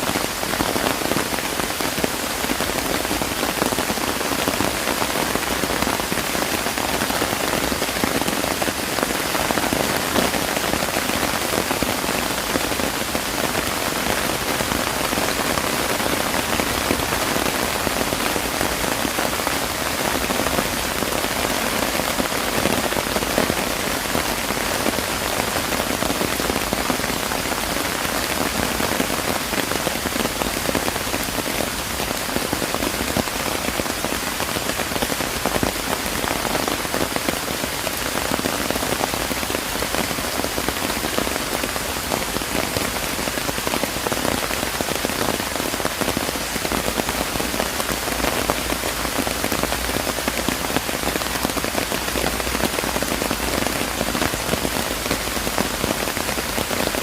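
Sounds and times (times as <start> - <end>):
rain pattering on surfaces: 0.0 - 57.0.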